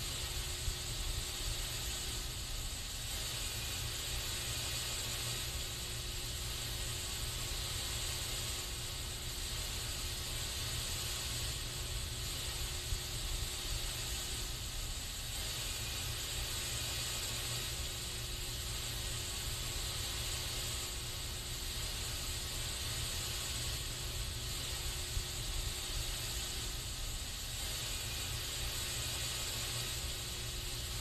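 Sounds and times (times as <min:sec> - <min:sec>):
aerosol spray can hissing: 0:00.0 - 0:31.0.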